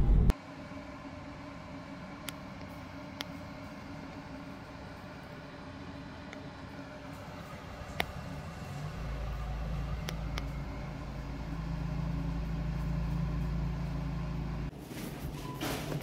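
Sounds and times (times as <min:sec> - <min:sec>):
car engine and road noise: 0:00.0 - 0:14.8.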